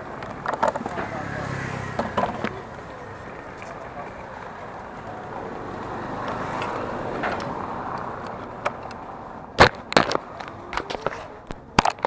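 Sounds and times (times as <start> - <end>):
road vehicle passing by: 0.0 - 12.0.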